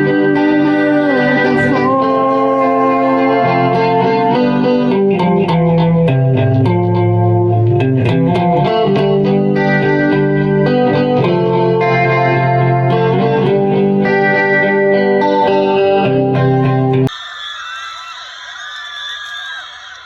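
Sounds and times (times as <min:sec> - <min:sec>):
guitar chords: 0:00.0 - 0:17.1
plucked guitar notes: 0:00.0 - 0:17.1.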